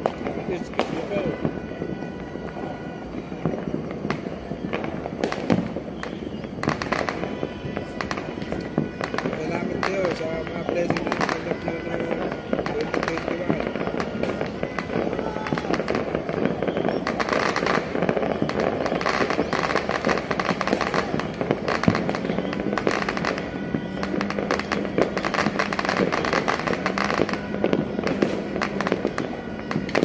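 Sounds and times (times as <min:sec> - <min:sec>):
firecrackers and fireworks crackling: 0:00.0 - 0:30.0.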